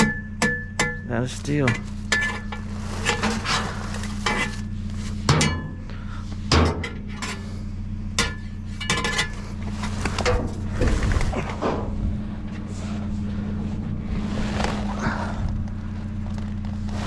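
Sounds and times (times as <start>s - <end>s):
scrap metal clanking: 0.0s - 14.9s
steady low hum: 0.0s - 17.0s.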